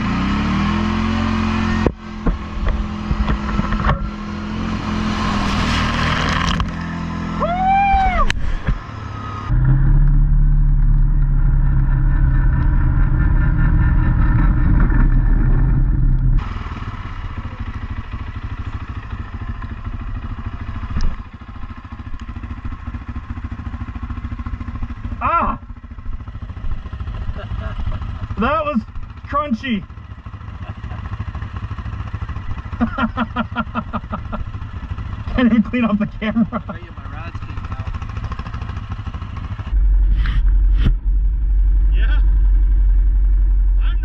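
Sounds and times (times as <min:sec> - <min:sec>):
atv engine revving: 0:00.0 - 0:44.0
atv engines running: 0:00.0 - 0:44.0.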